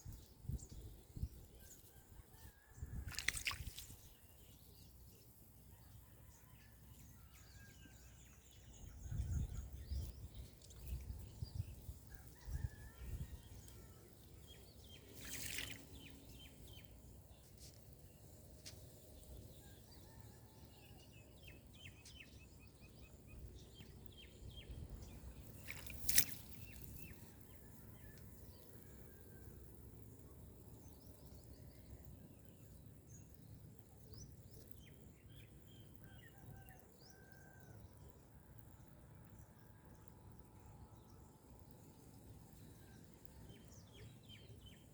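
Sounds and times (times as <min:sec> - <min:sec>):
faint outdoor ambience: 0:00.0 - 0:44.9.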